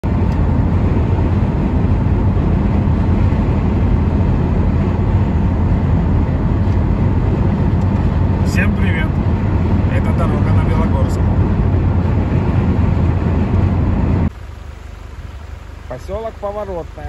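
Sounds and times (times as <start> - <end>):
car driving at speed: 0.0 - 17.0.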